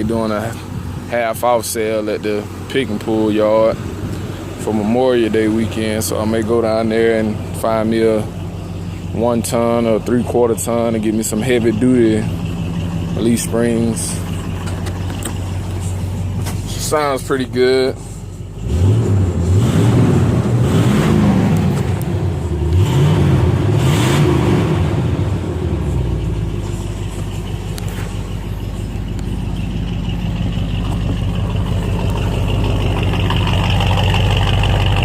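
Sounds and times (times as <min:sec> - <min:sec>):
engine revving and idling: 0:00.0 - 0:35.0.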